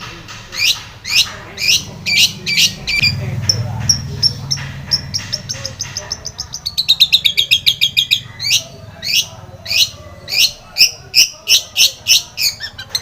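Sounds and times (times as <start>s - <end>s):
shrike singing: 0.6s - 13.0s.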